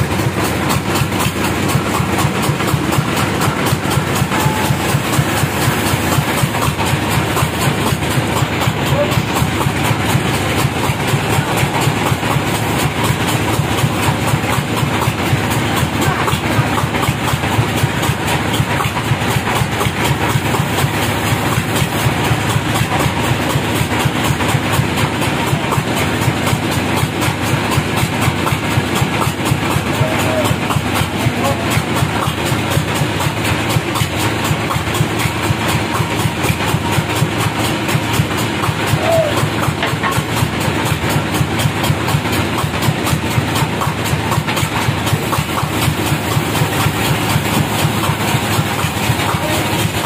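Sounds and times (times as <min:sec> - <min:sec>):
sawmill machinery droning: 0:00.0 - 0:50.0.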